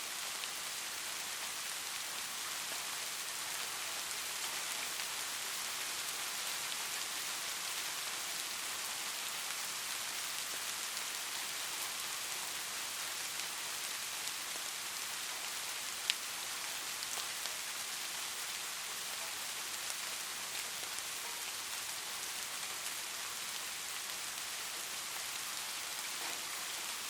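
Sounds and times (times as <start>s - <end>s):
light rain hissing: 0.0s - 27.0s.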